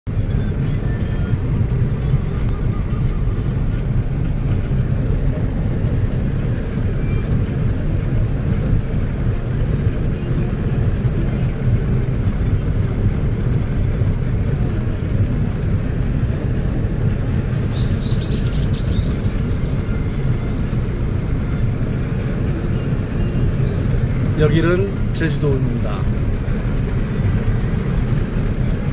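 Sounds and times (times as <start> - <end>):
car driving on road: 0.0 - 28.9.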